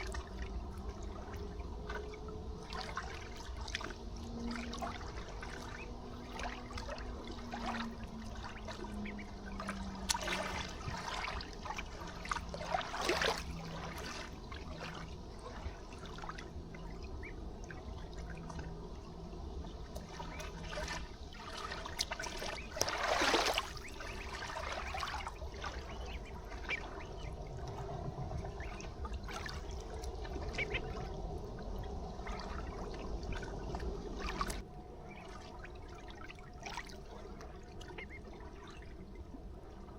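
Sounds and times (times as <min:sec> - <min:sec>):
ducks on water: 0:00.0 - 0:39.9
river water trickling and lapping: 0:00.0 - 0:39.9.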